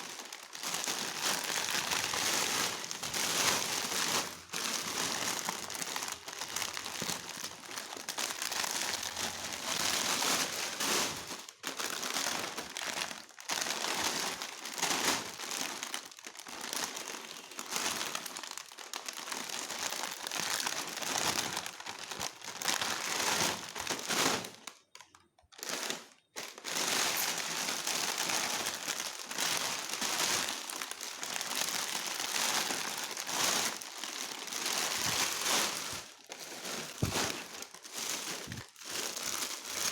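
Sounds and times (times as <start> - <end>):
plastic packets crinkling: 0.0 - 39.9.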